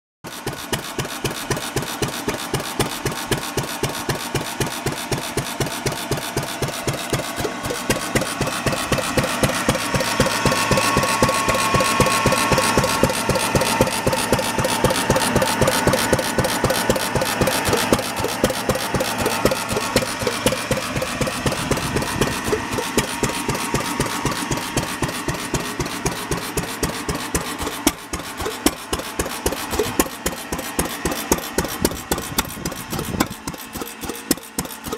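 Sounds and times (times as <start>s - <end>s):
gas engine running: 0.2s - 34.9s.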